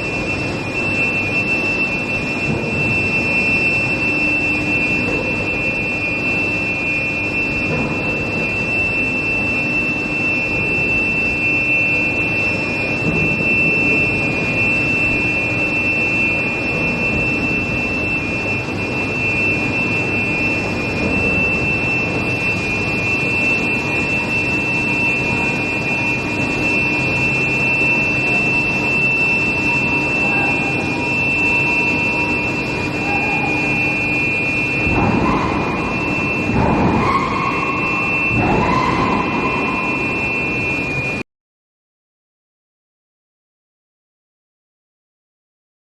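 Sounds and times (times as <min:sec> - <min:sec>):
high-pitched whine: 0:00.0 - 0:41.2
industrial roar: 0:00.0 - 0:41.2.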